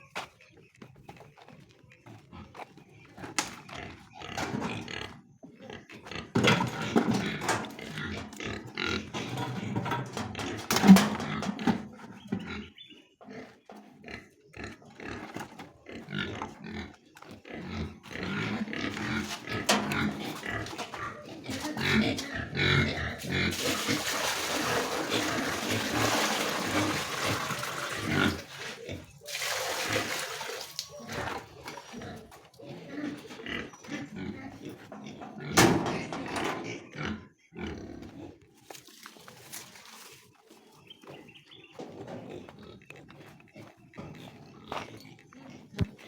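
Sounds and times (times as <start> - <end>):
pigs grunting: 0.0 - 46.0.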